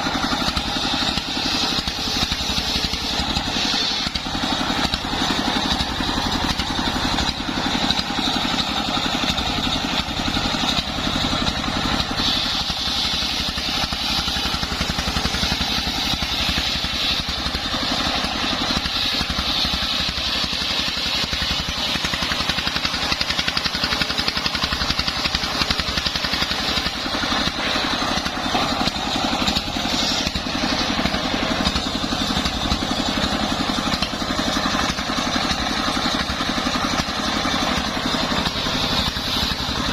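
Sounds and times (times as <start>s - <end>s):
fast engine beat: 0.0s - 39.9s
saw blade whining: 0.0s - 39.9s.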